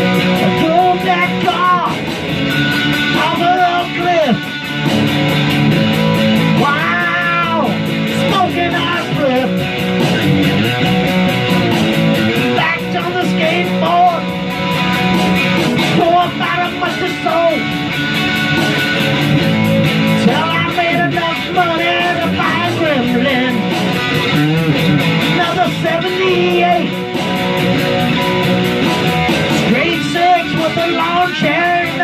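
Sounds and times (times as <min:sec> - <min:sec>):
electric guitar rock groove: 0:00.0 - 0:32.0
steady drum beat: 0:00.0 - 0:32.0
wailing guitar lead: 0:00.0 - 0:32.0.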